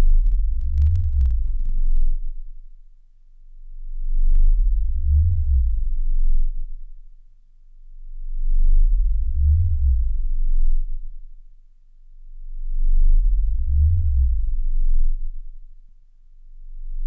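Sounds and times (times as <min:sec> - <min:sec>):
low deep droning tones: 0:00.0 - 0:07.2, 0:07.8 - 0:15.8, 0:16.4 - 0:17.0.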